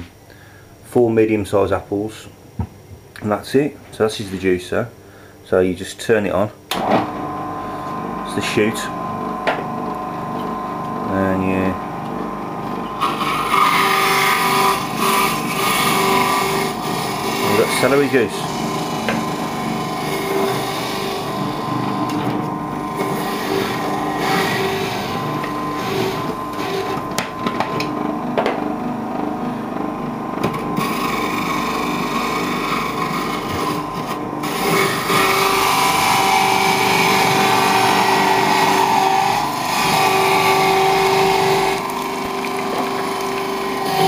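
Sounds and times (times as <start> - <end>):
juicer motor whine: 6.7 - 44.0.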